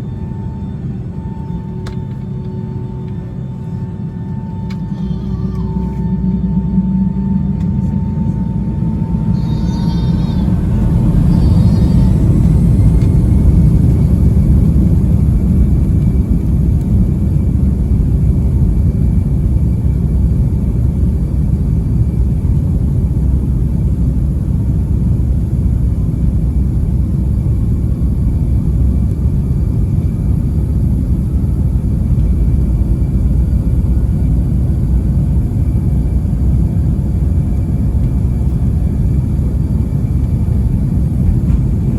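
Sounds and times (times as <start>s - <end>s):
jet engine rumble: 0.0s - 41.9s.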